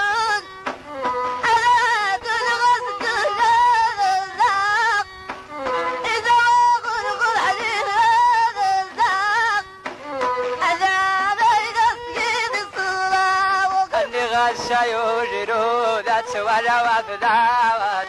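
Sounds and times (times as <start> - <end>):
traditional melody with vibrato: 0.0 - 18.0.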